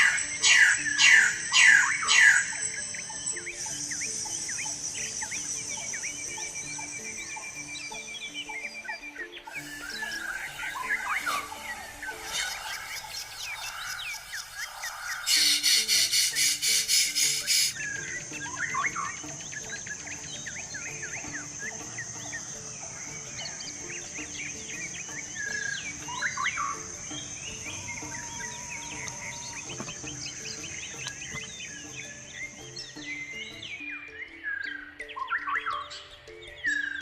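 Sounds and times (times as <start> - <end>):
high-pitched insect drone: 0.0 - 35.9
birds chirping and whistling: 0.0 - 37.0.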